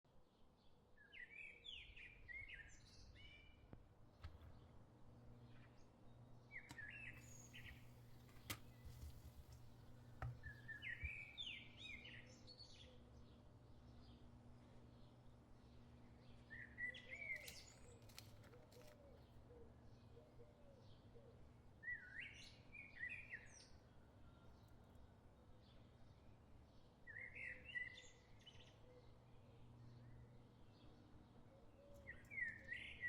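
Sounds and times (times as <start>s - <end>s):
faint bird song: 0.1s - 33.0s.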